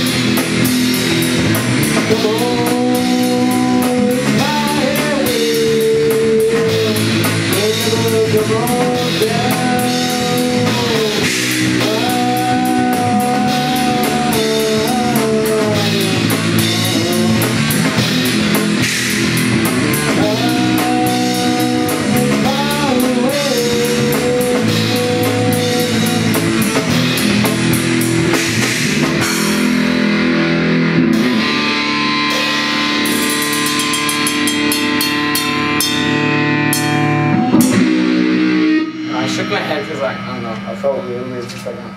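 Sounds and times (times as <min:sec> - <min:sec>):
lead guitar bending pitch: 0:00.0 - 0:41.9
rock music with guitar and drums: 0:00.0 - 0:41.9.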